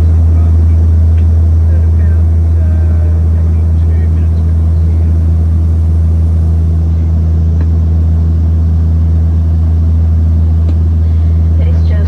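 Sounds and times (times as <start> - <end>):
propeller plane engines droning: 0.0 - 12.0.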